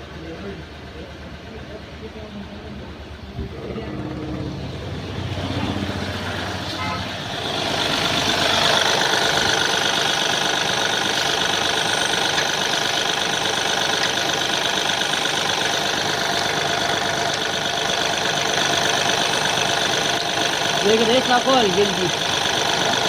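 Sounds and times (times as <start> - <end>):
diesel engine idling with knock: 0.0 - 23.0.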